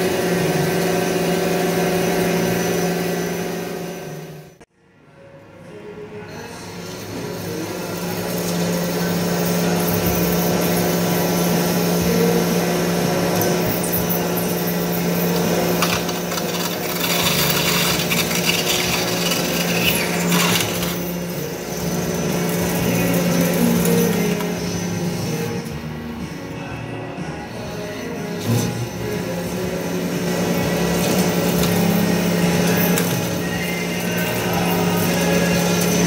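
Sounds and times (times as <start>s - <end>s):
lathe machine hum: 0.0s - 4.7s, 6.4s - 36.0s.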